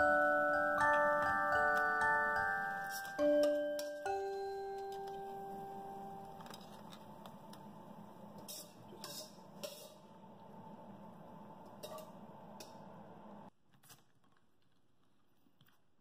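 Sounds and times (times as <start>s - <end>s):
faint steady hum: 0.0s - 13.5s.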